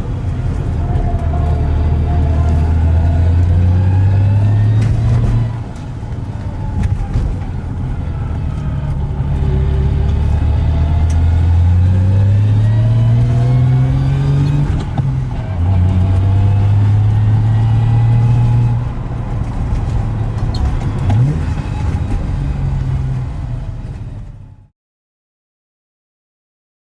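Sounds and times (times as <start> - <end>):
car engine accelerating hard: 0.0 - 24.7.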